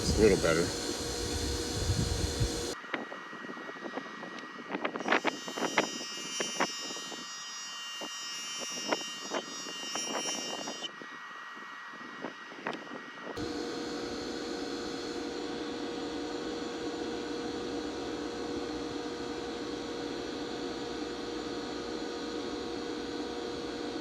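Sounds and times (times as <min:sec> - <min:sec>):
bench grinder humming: 0:00.0 - 0:02.8, 0:04.6 - 0:10.9, 0:13.4 - 0:24.0.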